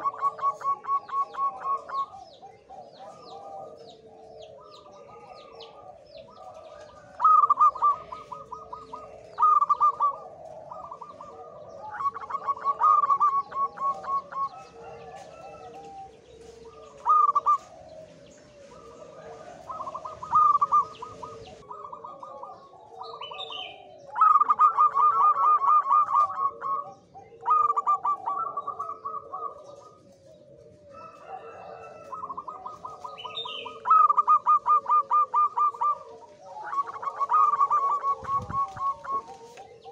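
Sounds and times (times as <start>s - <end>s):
dove cooing song: 0.0s - 39.9s
other birds calling softly: 0.0s - 39.9s.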